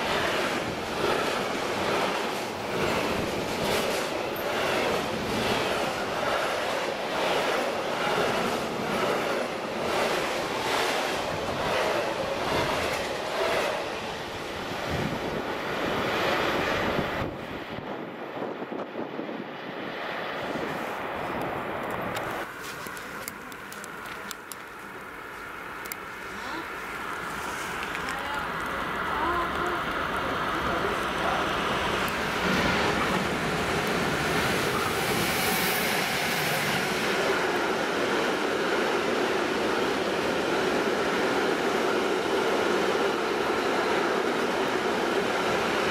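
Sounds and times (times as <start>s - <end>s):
train wheels rumbling and clattering: 0.0s - 19.5s, 20.5s - 45.9s.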